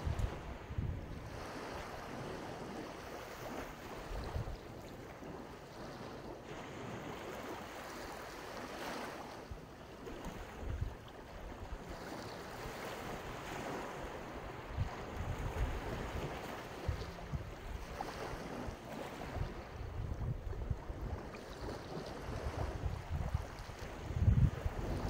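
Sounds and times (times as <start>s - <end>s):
sea surf washing onto beach: 0.0s - 25.0s
wind rumbling on microphone: 0.0s - 25.0s.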